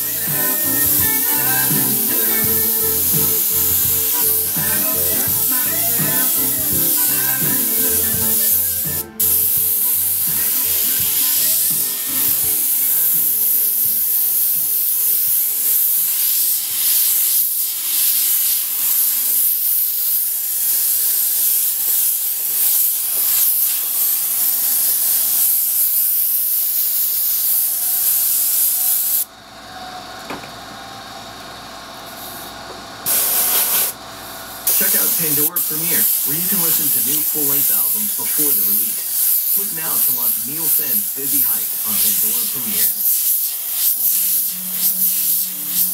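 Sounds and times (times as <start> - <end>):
airbrush spraying hiss: 0.0 - 29.3, 32.1 - 34.0, 34.6 - 45.9.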